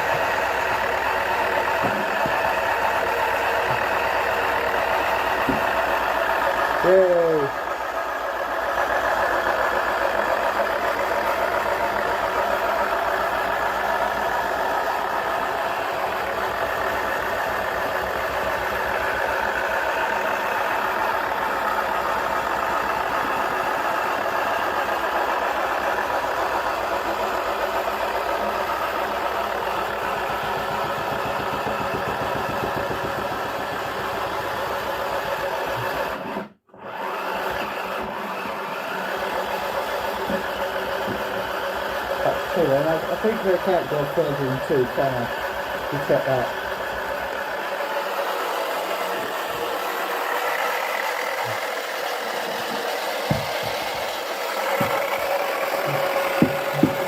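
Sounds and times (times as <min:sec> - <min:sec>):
small electric motor running: 0:00.0 - 0:57.0.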